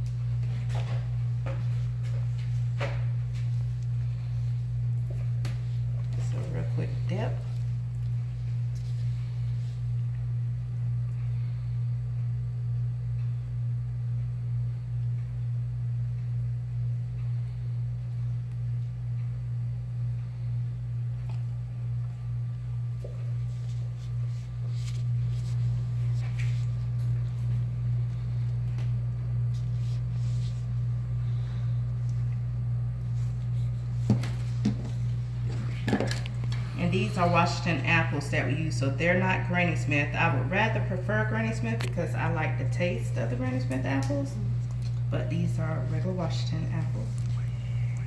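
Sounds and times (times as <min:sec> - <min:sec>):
low electric hum: 0:00.0 - 0:48.0.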